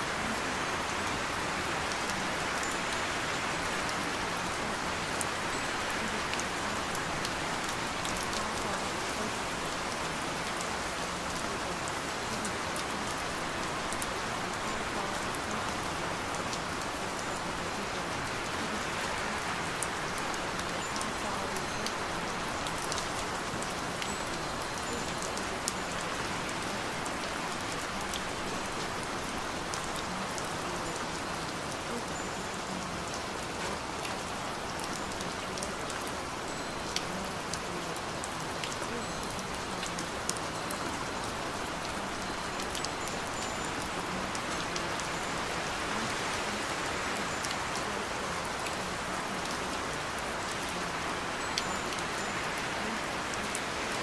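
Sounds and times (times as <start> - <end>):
steady rain hiss: 0.0 - 54.0
raindrops ticking: 0.2 - 54.0.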